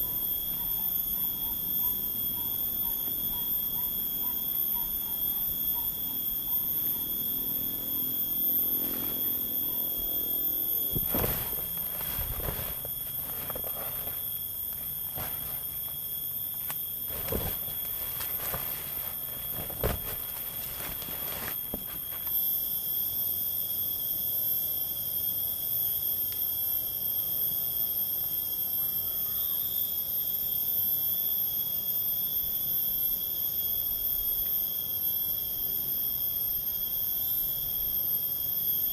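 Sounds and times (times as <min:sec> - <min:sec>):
forest insects shrilling: 0:00.0 - 0:38.9.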